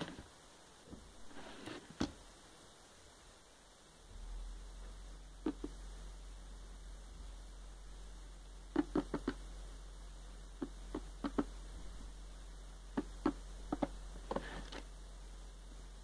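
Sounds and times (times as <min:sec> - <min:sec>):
faint mains hum: 0:00.0 - 0:16.0.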